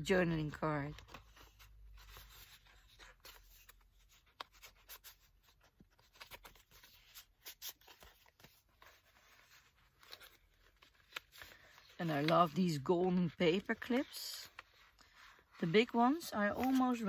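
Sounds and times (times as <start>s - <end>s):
paper cards rustling: 0.4s - 17.0s.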